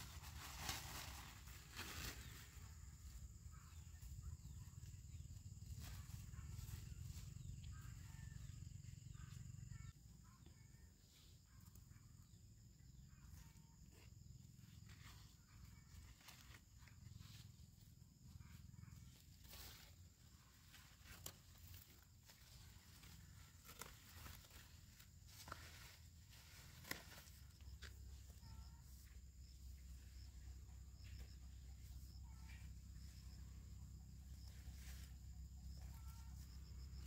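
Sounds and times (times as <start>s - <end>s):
rustling of leaves and vines: 0.0s - 9.9s, 13.3s - 37.0s
faint chirps: 0.0s - 37.0s.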